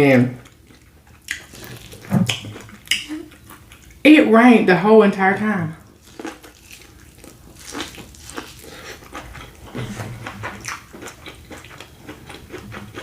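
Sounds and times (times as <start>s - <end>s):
chewing food with mouth clicks: 0.4s - 4.0s, 5.9s - 13.0s.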